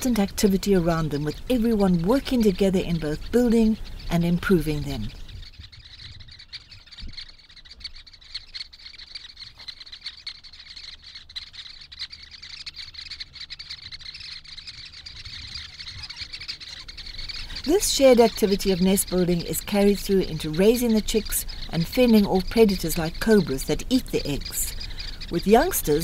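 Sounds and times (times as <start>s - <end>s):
birds chirping and clicking: 0.0s - 26.0s.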